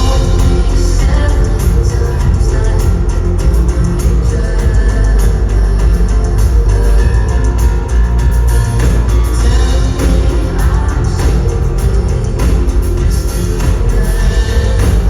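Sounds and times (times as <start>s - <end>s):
drum kit: 0.0s - 15.0s
heavy bass: 0.0s - 15.0s.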